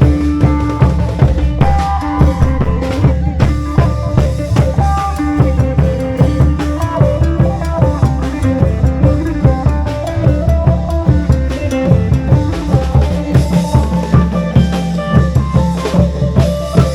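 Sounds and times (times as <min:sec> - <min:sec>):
folk melody in held notes: 0:00.0 - 0:16.9
long drums beating: 0:00.0 - 0:16.9.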